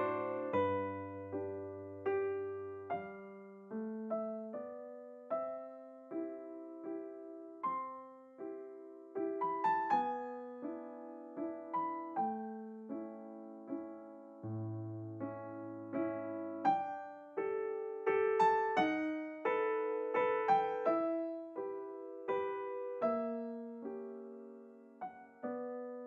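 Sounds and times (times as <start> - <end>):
soft keyboard melody: 0.0 - 26.0.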